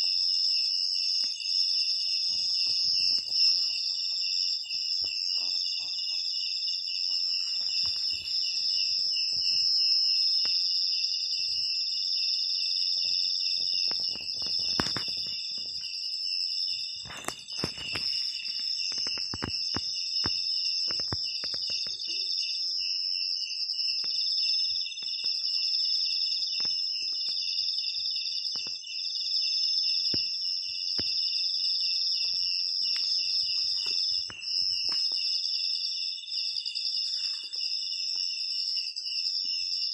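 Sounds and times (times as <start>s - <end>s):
insects trilling: 0.0s - 39.9s
pulsing insect chirp: 0.0s - 39.9s.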